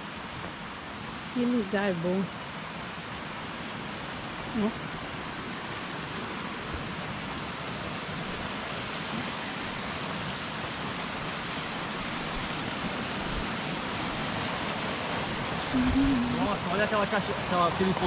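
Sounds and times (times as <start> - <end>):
waterfall and river rushing: 0.0 - 18.0.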